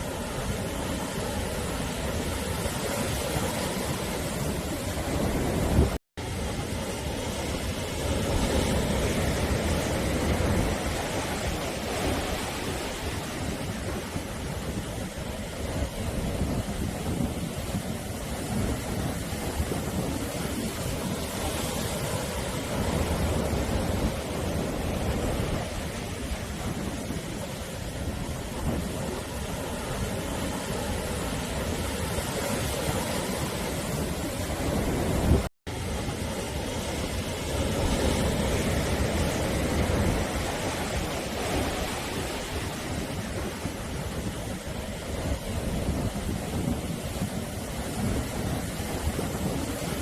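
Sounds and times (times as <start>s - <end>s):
waves breaking on shore: 0.0s - 50.0s.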